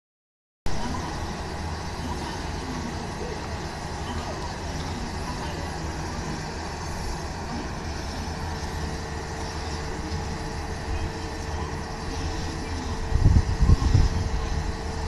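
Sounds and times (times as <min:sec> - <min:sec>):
steady whine: 0:00.7 - 0:15.0.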